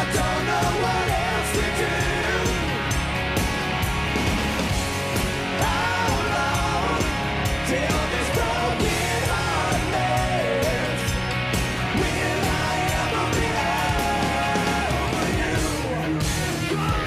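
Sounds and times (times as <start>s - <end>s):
hard rock band playing: 0.0s - 17.0s.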